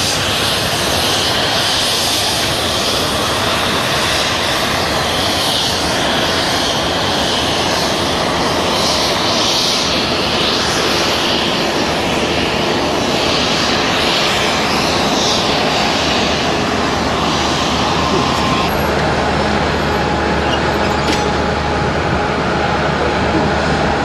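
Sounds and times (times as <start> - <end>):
train wheels running on rails: 0.0 - 24.0.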